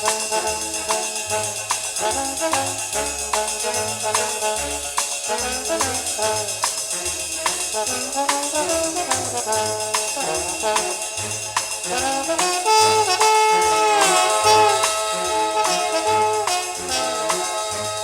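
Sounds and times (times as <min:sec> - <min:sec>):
brass horns playing melody: 0:00.0 - 0:18.0
samba rock music: 0:00.0 - 0:18.0
tambourine and percussion beat: 0:00.0 - 0:18.0.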